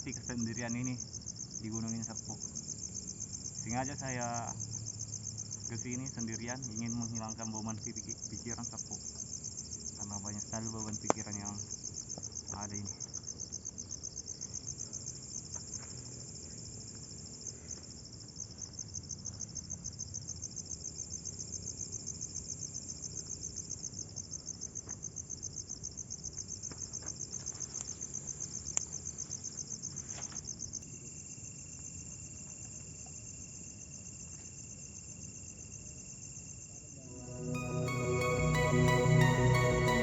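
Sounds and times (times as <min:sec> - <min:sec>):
crickets chirping: 0:00.0 - 0:37.4.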